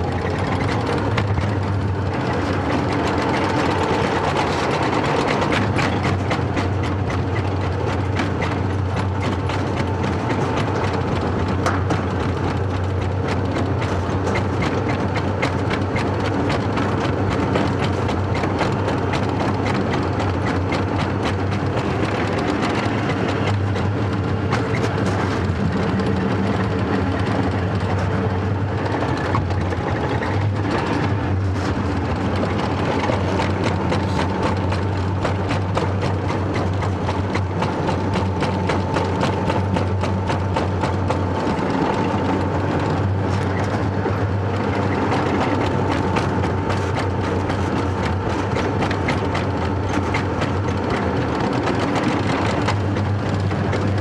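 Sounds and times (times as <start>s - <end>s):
sledge rolling rumble in steel trough: 0.0s - 54.0s
small rattles and knocks: 0.0s - 54.0s.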